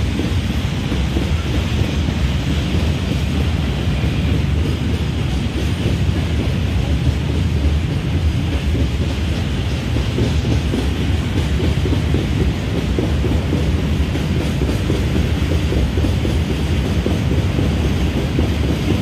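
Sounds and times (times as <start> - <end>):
freight train running on tracks: 0.0 - 19.0.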